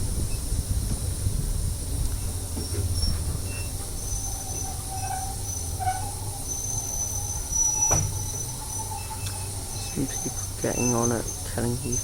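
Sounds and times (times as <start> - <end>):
train carriage rumbling: 0.0 - 12.0
wheel squeal: 2.1 - 12.0.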